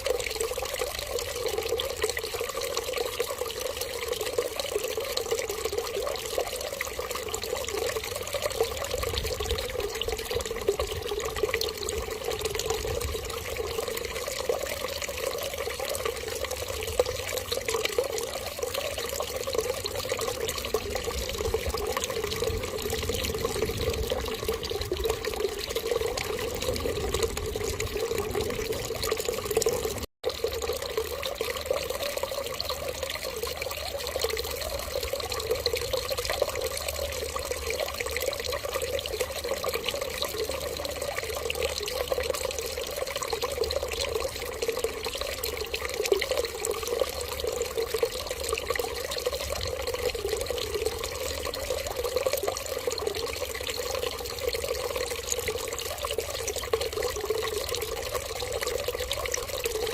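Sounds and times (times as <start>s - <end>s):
running water trickling: 0.0s - 59.9s.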